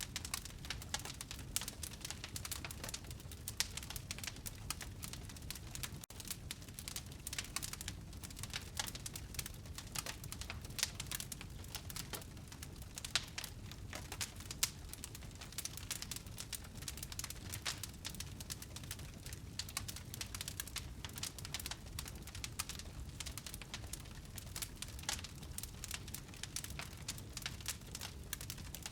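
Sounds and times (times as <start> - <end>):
fire crackling: 0.0 - 28.9
low rush of flames: 0.1 - 28.9.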